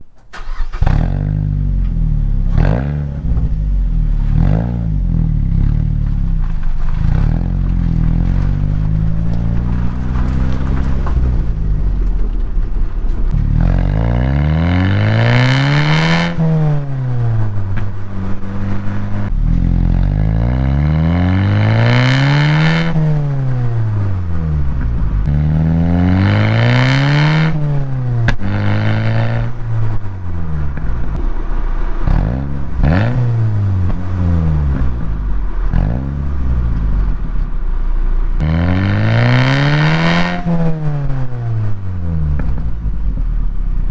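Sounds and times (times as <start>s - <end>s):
engine revving: 0.0s - 37.5s, 38.3s - 43.2s.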